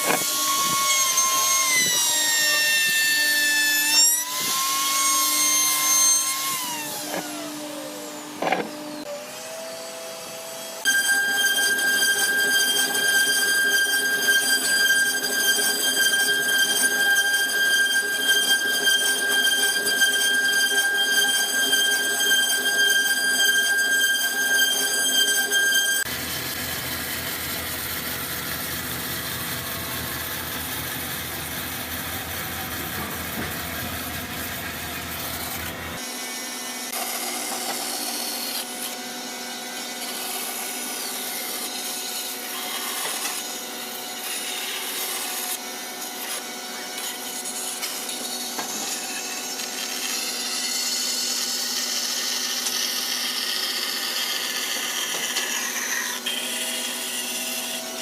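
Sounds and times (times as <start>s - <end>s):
power tool cutting wood: 0.0s - 58.0s.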